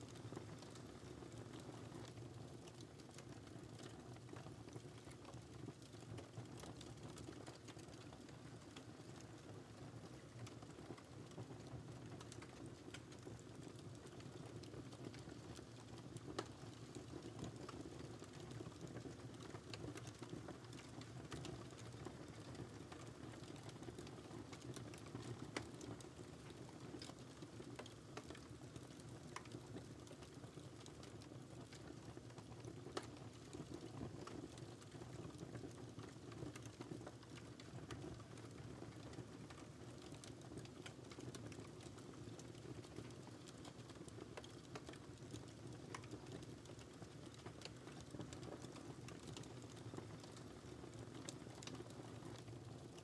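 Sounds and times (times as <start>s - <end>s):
wood fire crackling: 0.1s - 53.0s.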